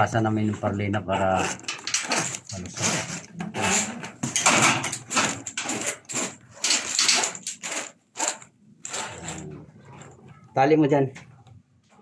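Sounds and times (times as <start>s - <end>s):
conduit rustling and scraping: 0.4s - 12.0s.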